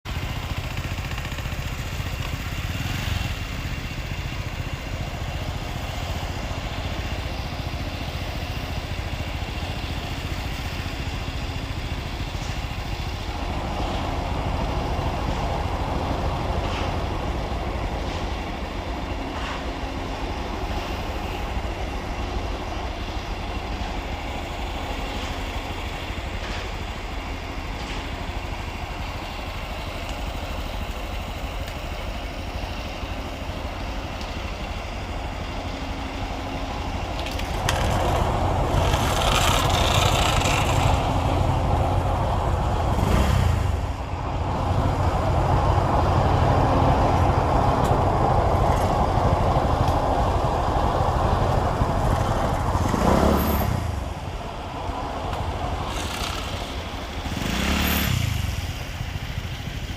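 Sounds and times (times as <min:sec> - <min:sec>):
low mechanical rumble: 0:00.1 - 0:59.9.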